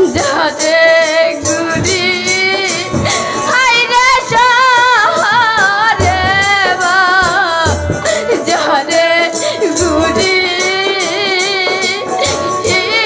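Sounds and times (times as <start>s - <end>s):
drum accompaniment: 0.0s - 13.0s
string accompaniment: 0.0s - 13.0s
woman singing folk song: 0.0s - 13.0s.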